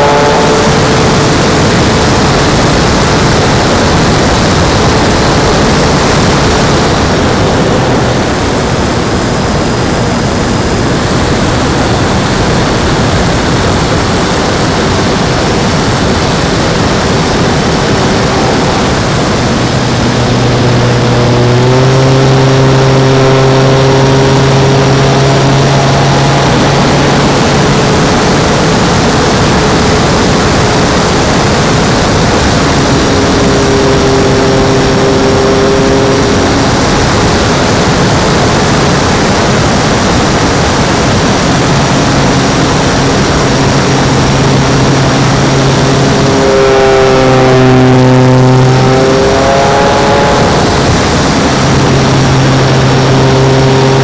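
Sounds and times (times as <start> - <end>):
electric motor hum and whine: 0.0 - 54.0
wind rush: 0.0 - 54.0.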